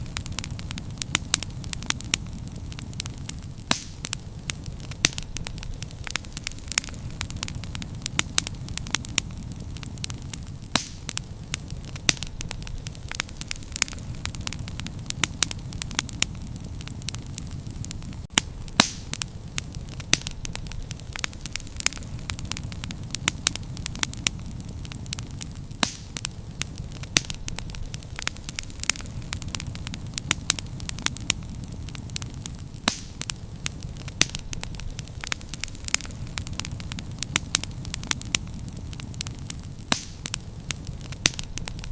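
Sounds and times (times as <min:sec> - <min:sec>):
bonfire crackling with pops: 0:00.0 - 0:41.9
steady low rumble: 0:00.0 - 0:41.9.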